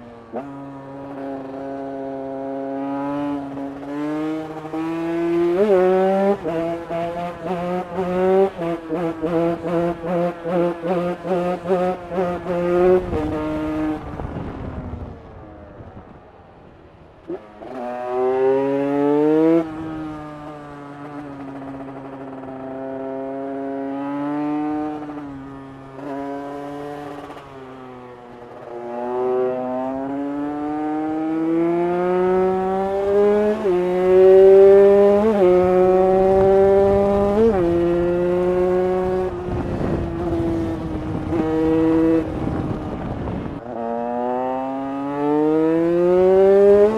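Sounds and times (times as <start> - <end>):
two-stroke motorcycle revving: 0.0 - 15.0, 17.2 - 46.9.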